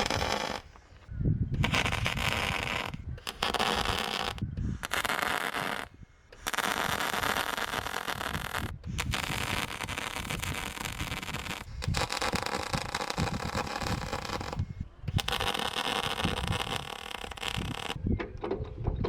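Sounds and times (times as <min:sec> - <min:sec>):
welding arc crackling: 0:00.0 - 0:18.0.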